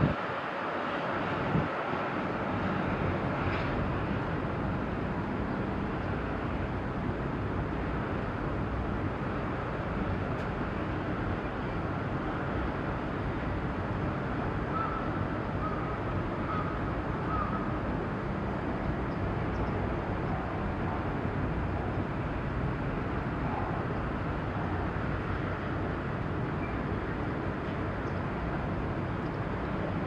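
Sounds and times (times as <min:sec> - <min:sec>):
city noise: 0:00.0 - 0:30.0
rumbling engines: 0:00.0 - 0:30.0.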